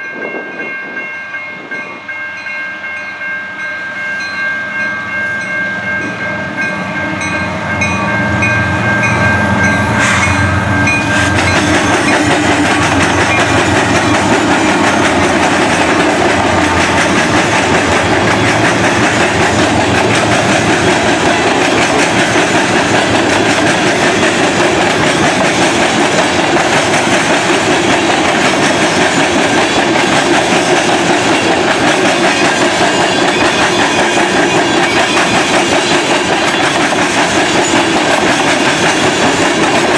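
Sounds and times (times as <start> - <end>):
train cars clattering over track: 5.9 - 39.9.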